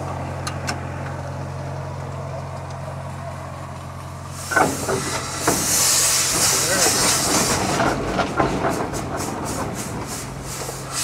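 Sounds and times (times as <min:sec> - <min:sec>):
steam engine low hum: 0:00.0 - 0:11.0.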